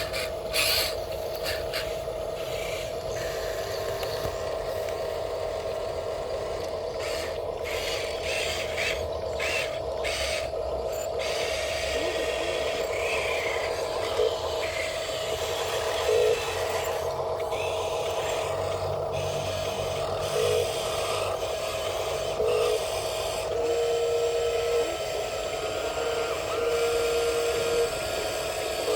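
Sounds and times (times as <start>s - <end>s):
electric motors whining: 0.0s - 28.9s.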